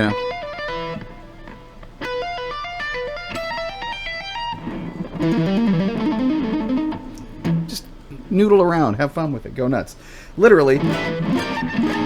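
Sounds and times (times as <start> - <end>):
guitar playing rapid notes: 0.0 - 8.3, 10.6 - 12.0.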